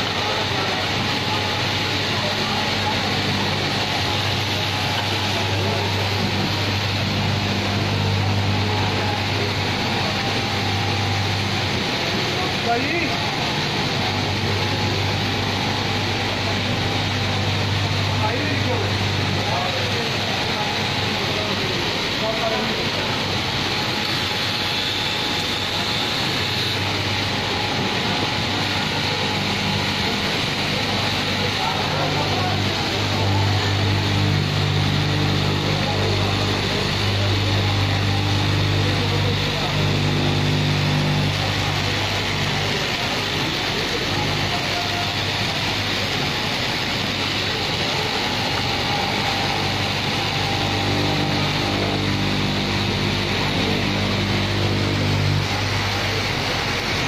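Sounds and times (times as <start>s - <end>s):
cloth cutting machine running: 0.0s - 57.0s.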